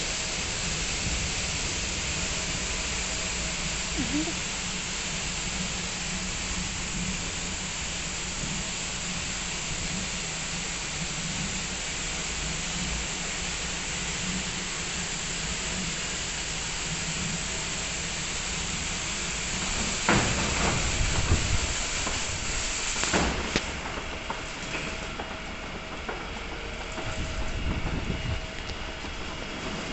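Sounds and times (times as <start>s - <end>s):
foam spraying hiss: 0.0s - 29.9s.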